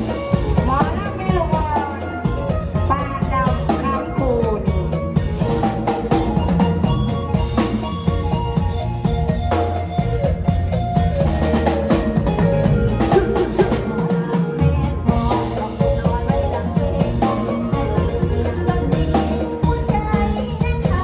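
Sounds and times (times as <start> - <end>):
bass: 0.0 - 21.0
drum kit beat: 0.0 - 21.0
keyboard melody: 0.0 - 21.0.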